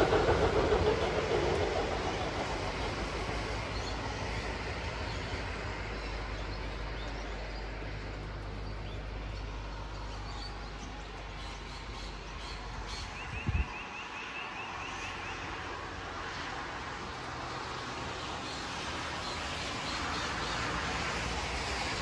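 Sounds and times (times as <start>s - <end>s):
road traffic rumble: 0.0s - 22.0s
steady rain falling: 1.5s - 12.9s, 14.2s - 22.0s.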